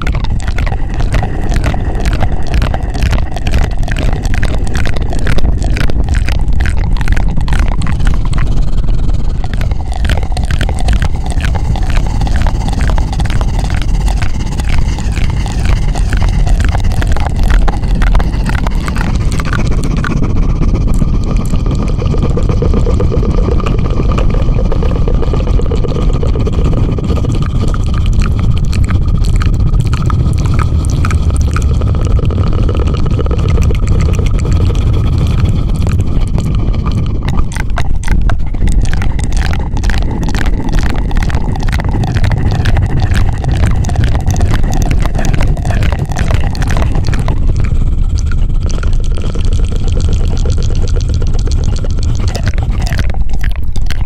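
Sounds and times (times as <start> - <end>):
fluttering rumble against microphone: 0.0 - 54.0
rapid crackling strokes: 0.0 - 54.0.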